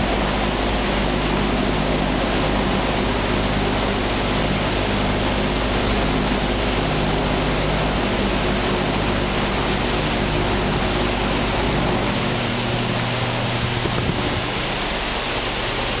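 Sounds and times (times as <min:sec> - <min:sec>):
engine with hissing exhaust: 0:00.0 - 0:16.0.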